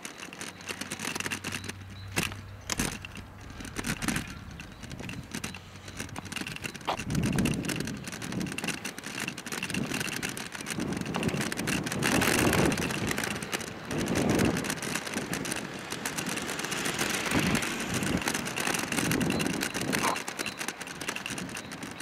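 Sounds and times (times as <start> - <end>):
kick bike rumbling rattle: 0.0 - 22.0.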